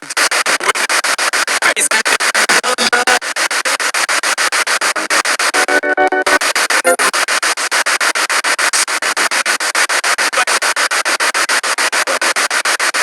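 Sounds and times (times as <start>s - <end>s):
pulsing radio static: 0.0s - 13.0s
snatch of broadcast sound: 0.0s - 13.0s.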